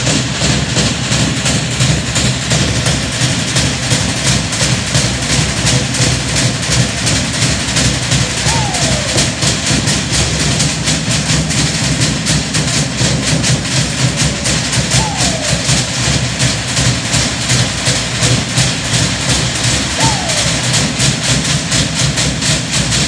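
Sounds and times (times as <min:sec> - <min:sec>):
fast drumming: 0:00.0 - 0:23.0.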